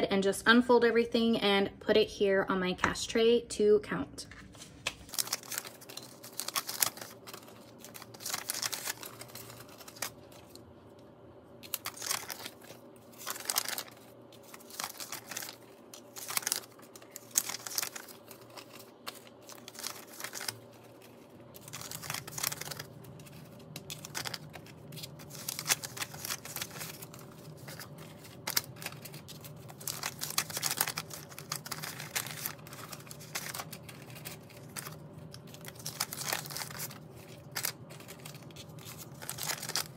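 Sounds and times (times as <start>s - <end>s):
banknotes crinkling and rustling: 4.2s - 10.7s, 11.6s - 39.9s.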